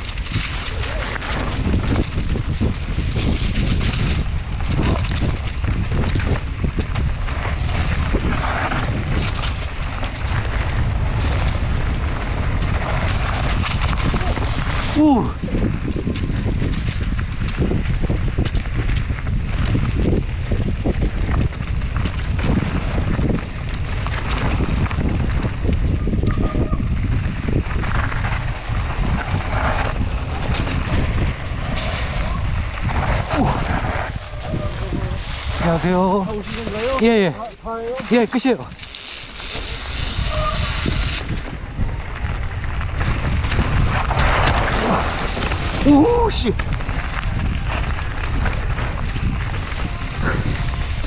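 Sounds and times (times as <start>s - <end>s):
bike rattling on rough trail: 0.0s - 51.0s
wind rushing over microphone: 0.0s - 51.0s.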